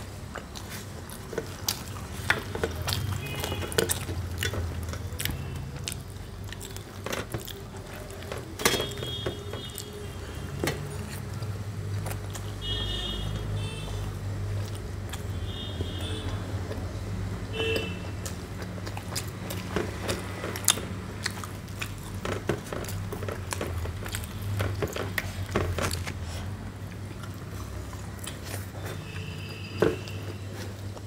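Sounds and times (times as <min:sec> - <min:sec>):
chewing with wet smacks: 0:00.0 - 0:31.0.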